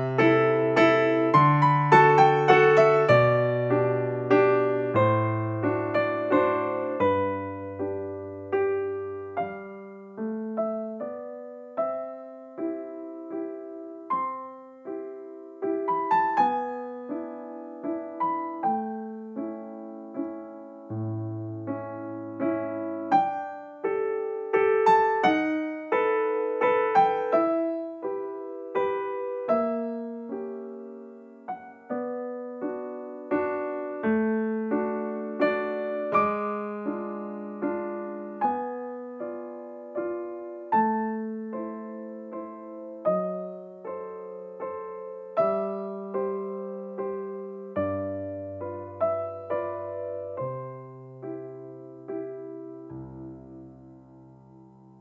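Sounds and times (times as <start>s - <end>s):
slow piano melody: 0.0s - 55.0s.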